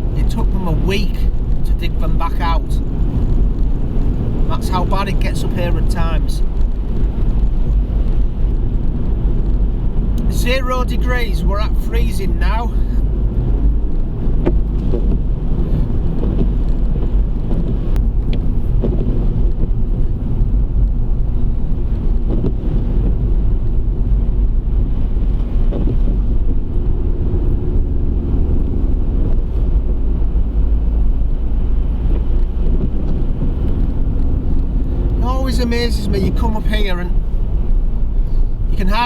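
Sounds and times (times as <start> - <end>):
car engine and tyre rumble: 0.0 - 39.0
wind: 0.0 - 39.0.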